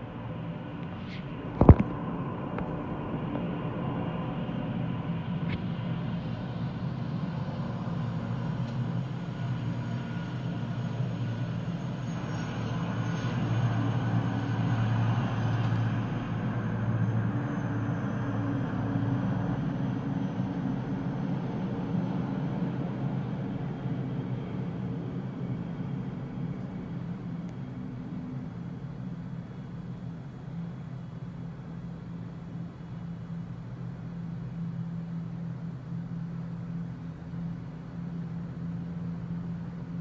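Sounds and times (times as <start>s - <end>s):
faint high whine: 0.0s - 40.0s
helicopter rotor drone: 0.0s - 40.0s.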